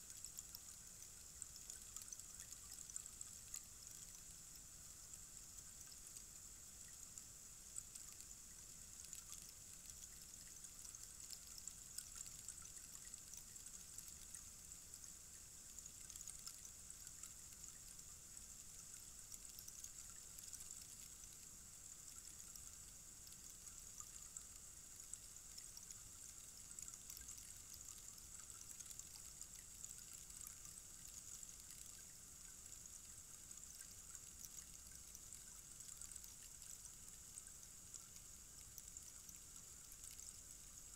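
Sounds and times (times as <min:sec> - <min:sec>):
rainstick trickling: 0:00.0 - 0:40.9.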